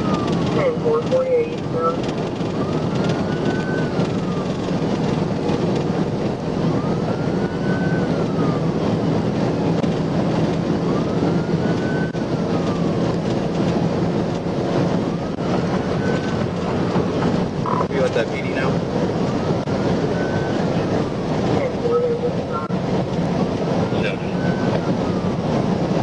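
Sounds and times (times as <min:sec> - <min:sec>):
police siren wailing: 0:00.0 - 0:26.0
road and wind noise: 0:00.0 - 0:26.0.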